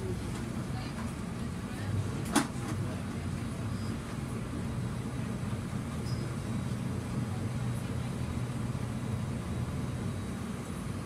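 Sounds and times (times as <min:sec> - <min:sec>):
bus rumbling inside cabin: 0:00.0 - 0:11.0.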